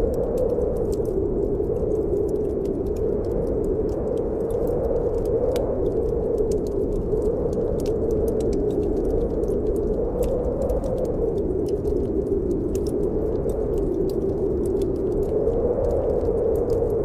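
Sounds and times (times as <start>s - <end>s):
low rush of snowstorm wind: 0.0s - 17.0s
wood fire crackling and popping: 0.0s - 17.0s.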